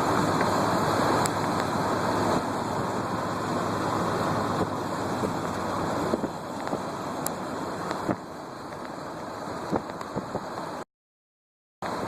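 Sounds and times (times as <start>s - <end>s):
car road and tyre noise: 0.0s - 10.9s.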